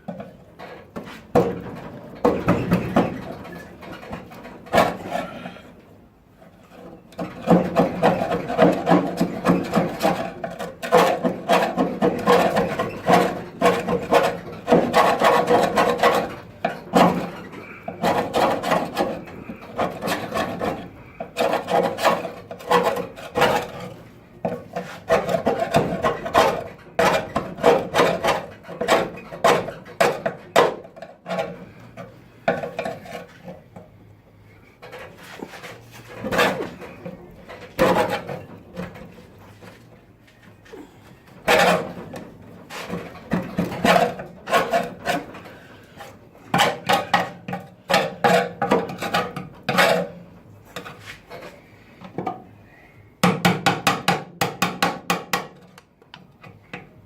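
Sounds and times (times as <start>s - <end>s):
hand scraping car bodywork: 0.0s - 52.5s.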